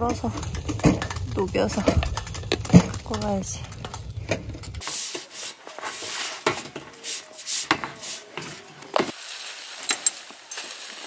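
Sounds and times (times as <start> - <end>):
camping gear scraping and knocking: 0.0 - 9.2.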